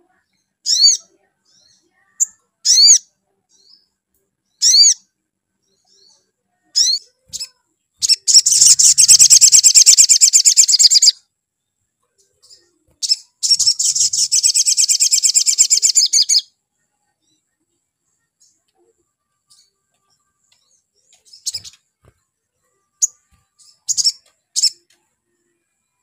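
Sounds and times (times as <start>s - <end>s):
sunbird chirping and trilling: 0.2s - 11.2s, 12.2s - 17.5s, 19.4s - 22.0s, 22.6s - 24.9s.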